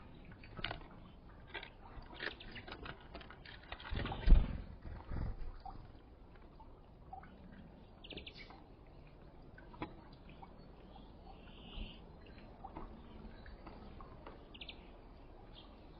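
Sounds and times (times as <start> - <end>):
songbirds chirping faintly: 0.0 - 15.9.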